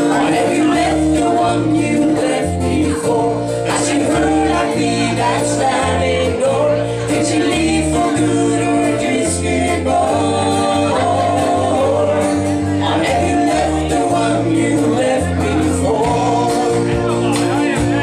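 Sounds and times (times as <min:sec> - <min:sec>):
bass guitar: 0:00.0 - 0:18.0
drum kit: 0:00.0 - 0:18.0
electric guitars: 0:00.0 - 0:18.0.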